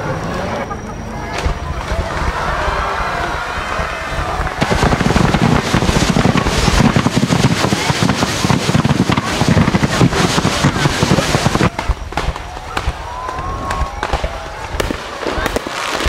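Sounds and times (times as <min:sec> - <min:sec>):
fireworks bangs and crackles: 0:00.7 - 0:16.0.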